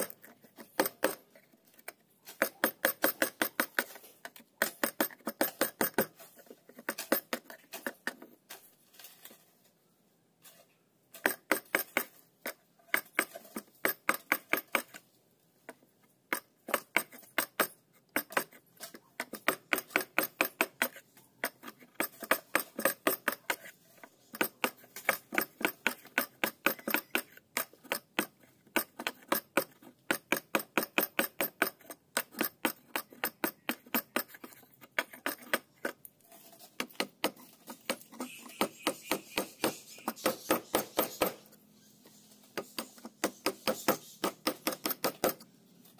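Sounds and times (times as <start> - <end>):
hand saw cutting wood: 0.0 - 8.7, 10.4 - 15.0, 16.3 - 41.6, 42.4 - 45.9.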